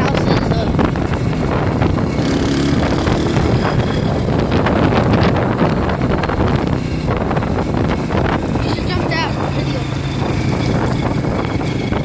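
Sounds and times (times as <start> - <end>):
dirt bike engine running: 0.0 - 12.0
wind buffeting microphone: 0.0 - 12.0.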